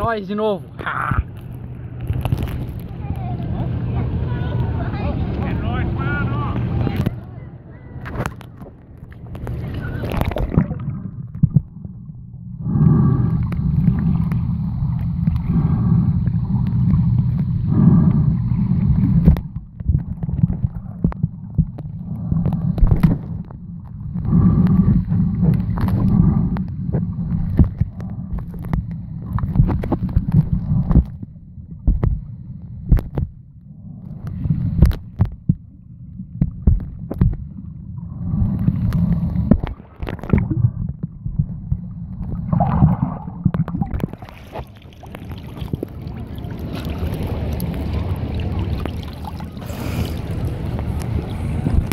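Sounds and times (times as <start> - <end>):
underwater rumble of moving water: 0.0 - 51.9
small underwater clicks and knocks: 1.1 - 3.8, 6.5 - 7.3, 8.0 - 12.0, 13.2 - 49.5, 50.4 - 51.9.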